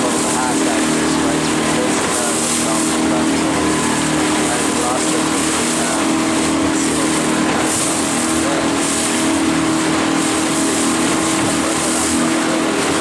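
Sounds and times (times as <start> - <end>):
motorboat engine running: 0.0 - 13.0
water rushing past boat: 0.0 - 13.0.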